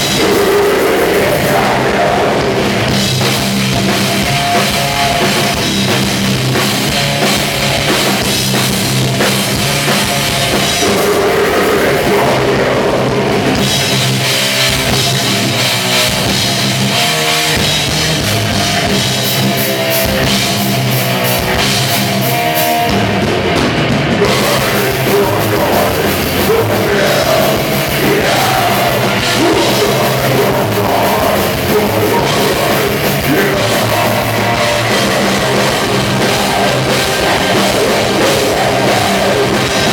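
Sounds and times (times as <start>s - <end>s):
distorted guitars: 0.0s - 39.9s
drum kit: 0.0s - 39.9s
metal band playing: 0.0s - 39.9s.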